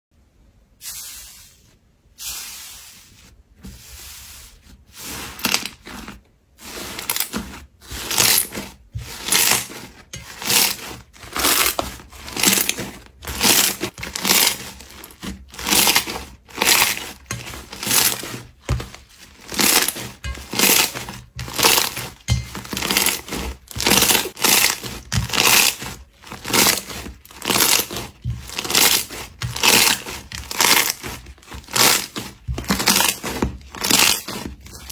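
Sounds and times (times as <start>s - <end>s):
slime squishing: 2.3s - 34.9s.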